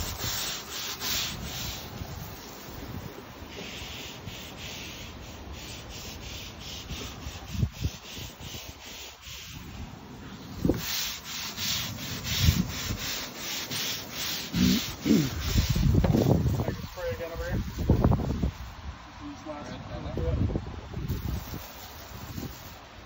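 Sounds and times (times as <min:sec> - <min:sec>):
deck brush scrubbing decking: 0:00.0 - 0:18.8, 0:21.0 - 0:23.0.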